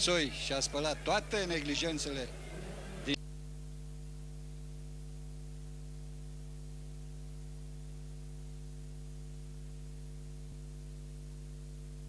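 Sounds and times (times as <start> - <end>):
electrical mains hum: 0.0 - 12.0
tape hiss: 0.0 - 12.0.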